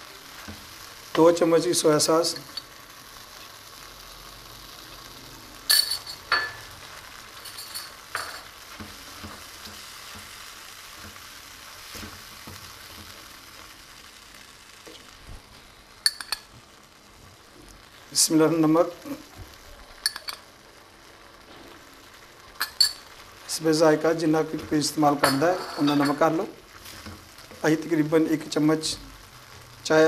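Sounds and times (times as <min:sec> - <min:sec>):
onion mixture sizzling: 0:00.0 - 0:30.0.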